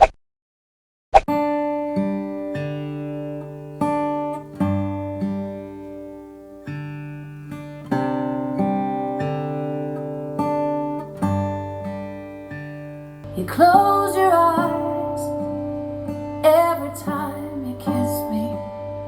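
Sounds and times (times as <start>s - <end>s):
acoustic guitar chords: 1.3s - 19.0s.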